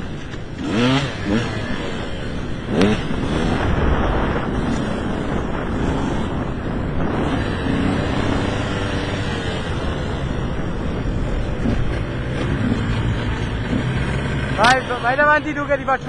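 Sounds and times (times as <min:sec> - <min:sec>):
motorcycle engine revving: 0:00.0 - 0:16.0
wind buffeting microphone: 0:00.0 - 0:16.0.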